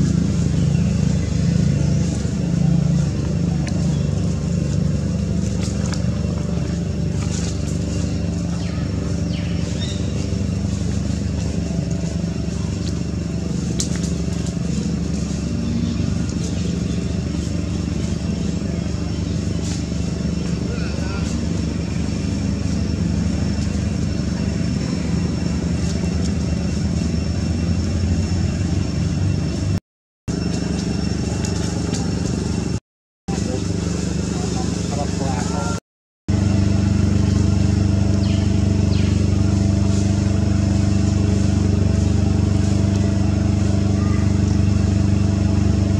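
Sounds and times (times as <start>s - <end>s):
low engine hum: 0.0s - 45.9s.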